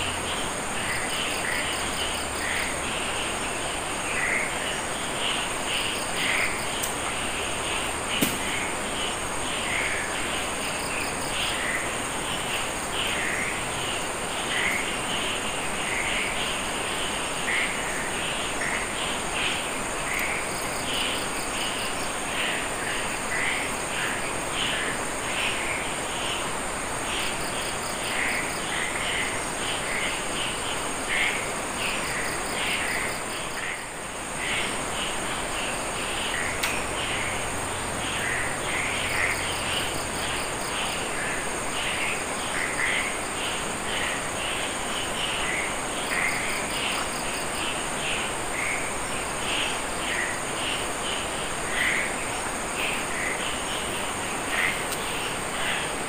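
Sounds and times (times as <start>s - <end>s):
crickets buzzing: 0.0s - 56.0s
insect chirping calls: 0.0s - 56.0s
steady hiss: 0.0s - 56.0s.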